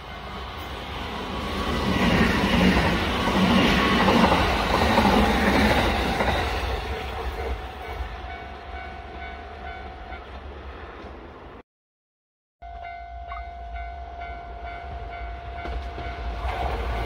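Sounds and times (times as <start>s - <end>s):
train running: 0.0s - 11.6s, 12.6s - 17.0s.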